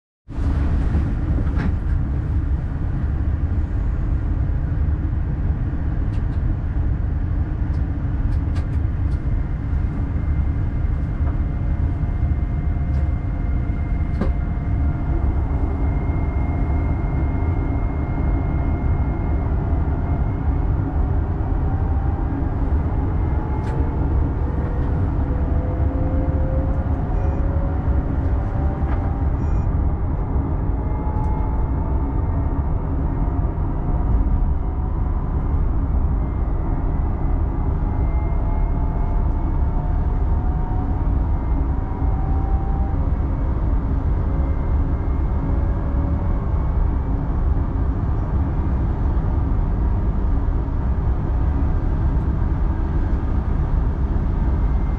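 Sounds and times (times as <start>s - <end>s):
train low rumble with held tones: 0.3s - 54.9s.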